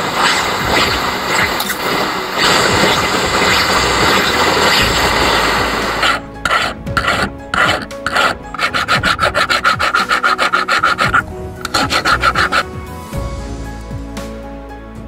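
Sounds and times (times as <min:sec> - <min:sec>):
file rasping on metal ring: 0:00.2 - 0:12.7.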